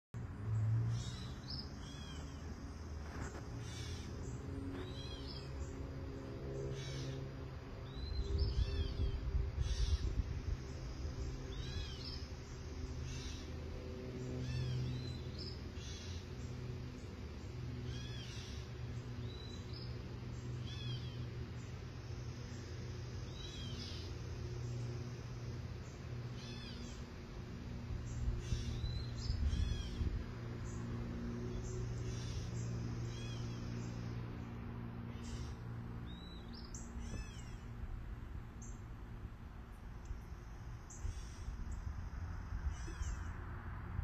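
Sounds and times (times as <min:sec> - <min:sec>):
steady low hum: 0:00.2 - 0:44.0
songbird chirping: 0:00.4 - 0:39.0.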